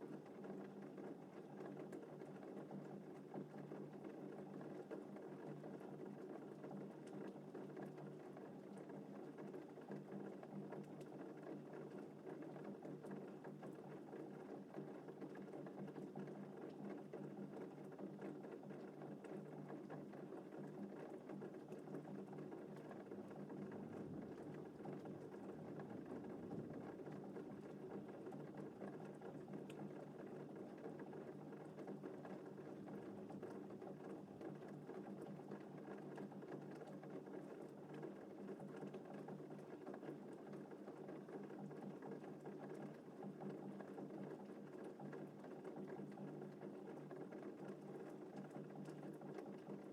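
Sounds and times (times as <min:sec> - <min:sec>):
gentle rain: 0:00.0 - 0:49.9.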